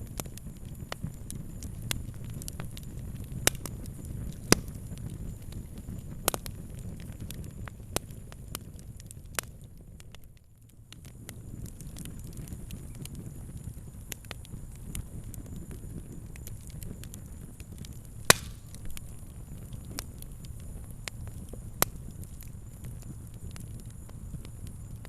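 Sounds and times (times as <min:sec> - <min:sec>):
fire crackling and popping: 0:00.0 - 0:25.0
low steady rumble: 0:00.0 - 0:25.0.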